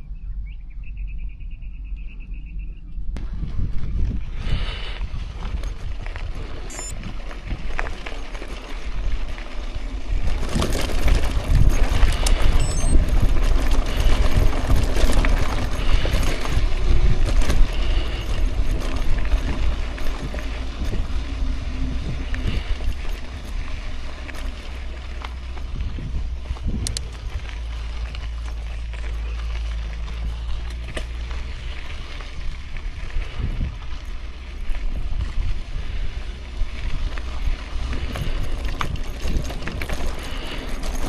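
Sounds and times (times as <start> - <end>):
wind buffeting microphone: 2.3 - 41.0
bicycle tyres on gravel: 2.5 - 41.0.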